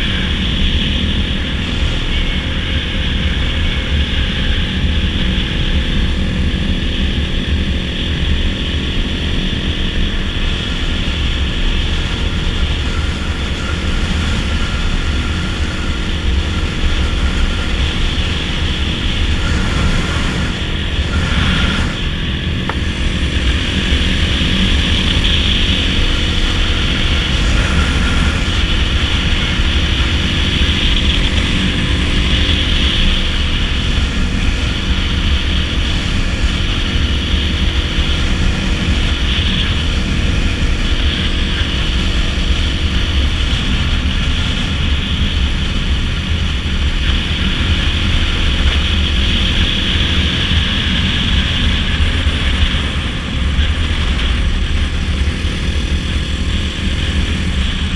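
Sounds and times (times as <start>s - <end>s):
dirt bike engine running: 0.0s - 57.9s
wind rush on microphone: 0.0s - 57.9s.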